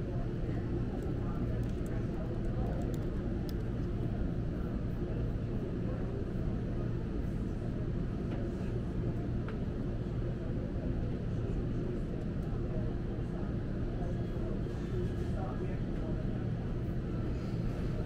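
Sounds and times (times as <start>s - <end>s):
low cafe background hum: 0.0s - 18.0s.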